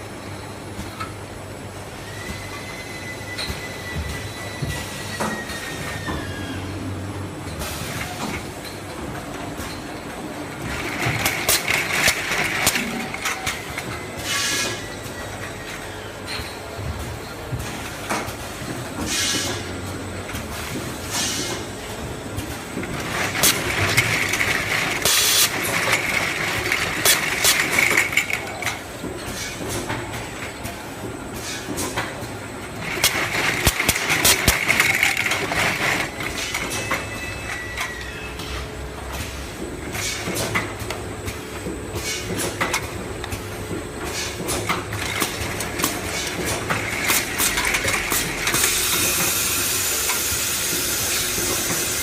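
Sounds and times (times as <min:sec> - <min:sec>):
bottling line mechanical clatter: 0:07.4 - 0:52.0.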